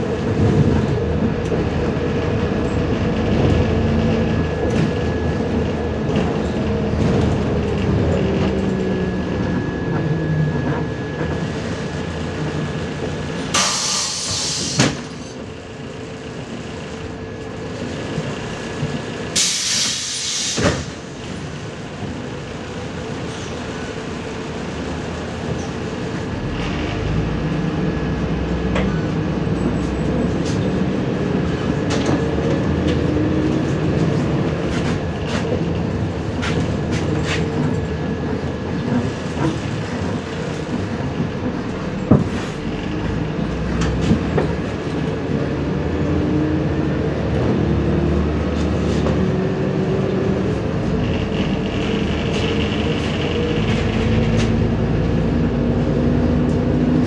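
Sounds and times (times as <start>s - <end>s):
bus body rattling and knocking: 0.0s - 57.0s
bus engine running: 0.0s - 57.0s
road noise: 0.0s - 57.0s.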